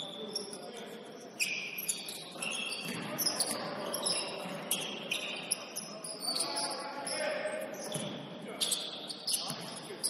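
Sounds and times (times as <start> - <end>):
sneakers squeaking on floor: 0.0 - 10.0.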